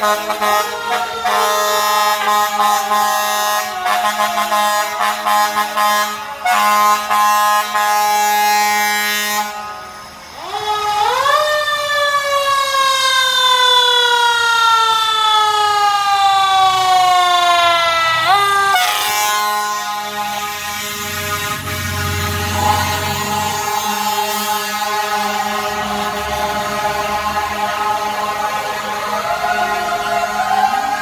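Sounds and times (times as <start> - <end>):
fire truck air horn: 0.0 - 31.0.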